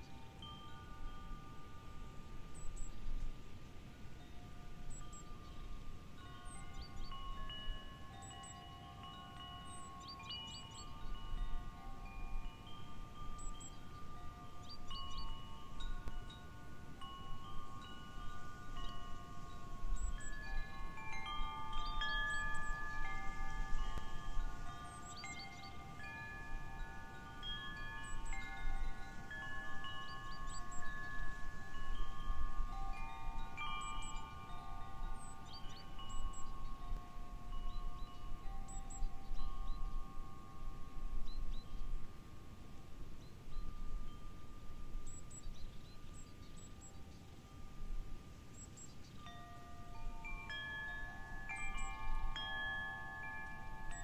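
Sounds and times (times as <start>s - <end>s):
wind chimes ringing: 0.0s - 54.0s.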